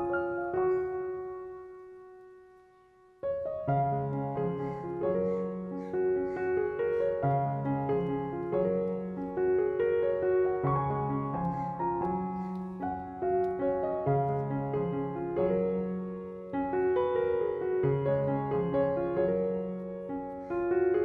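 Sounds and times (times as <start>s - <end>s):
piano music with held notes: 0.0s - 21.0s.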